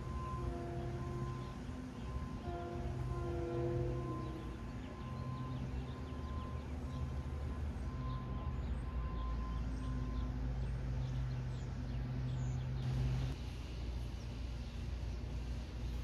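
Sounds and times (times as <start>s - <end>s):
low hum of standing train: 0.0s - 16.0s.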